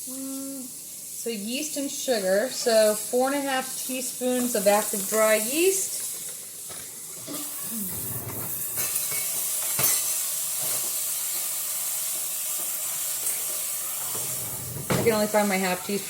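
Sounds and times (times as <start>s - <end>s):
steady high hiss: 0.0s - 15.9s.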